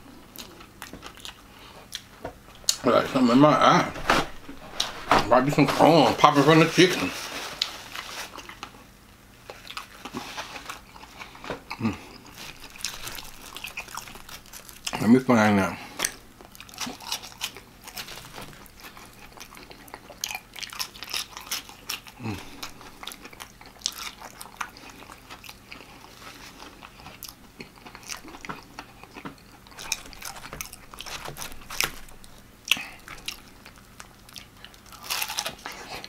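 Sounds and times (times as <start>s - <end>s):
chewing and crunching: 0.0s - 2.8s, 6.8s - 8.8s, 9.4s - 15.1s, 15.8s - 36.0s.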